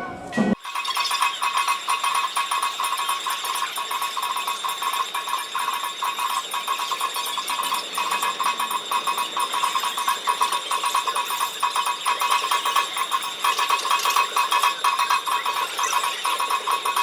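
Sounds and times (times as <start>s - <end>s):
level crossing warning bell: 0.0s - 0.6s, 1.6s - 17.0s.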